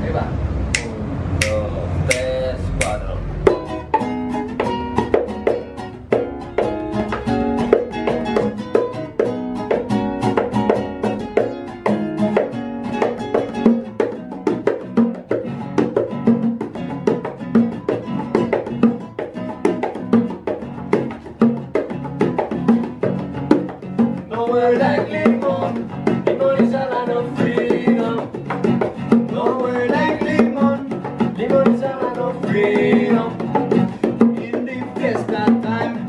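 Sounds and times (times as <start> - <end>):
bongos tapped: 0.7 - 36.0
classical guitar picking: 0.7 - 36.0.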